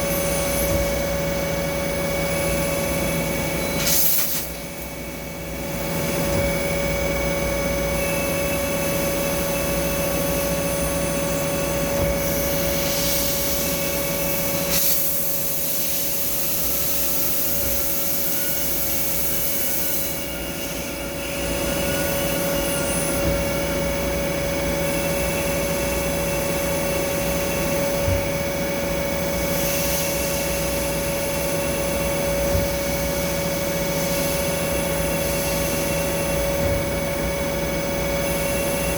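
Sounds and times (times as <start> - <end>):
machine tool whine: 0.0 - 4.0, 4.6 - 14.7, 16.5 - 38.9.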